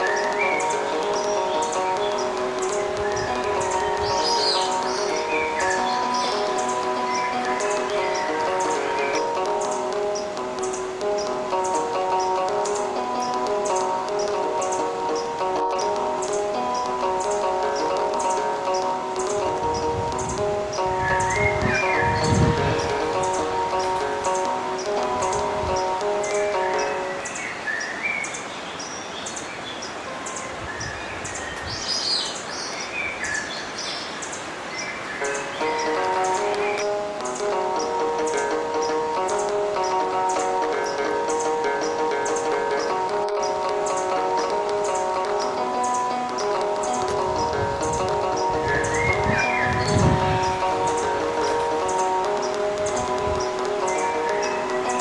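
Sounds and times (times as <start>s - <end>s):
river rushing: 0.0s - 55.0s
small birds chirping: 0.0s - 55.0s
soft instrumental music: 0.0s - 55.0s
steady hiss: 0.0s - 55.0s.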